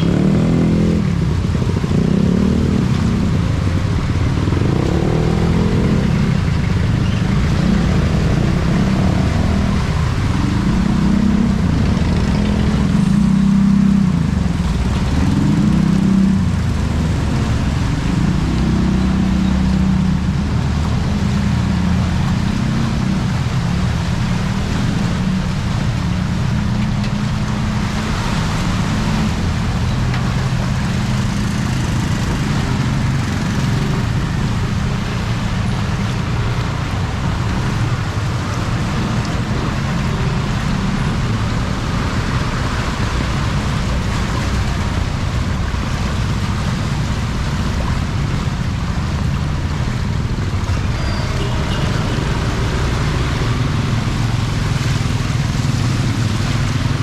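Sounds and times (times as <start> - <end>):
rain and water hiss: 0.0 - 57.0
traffic engine hum: 0.0 - 57.0.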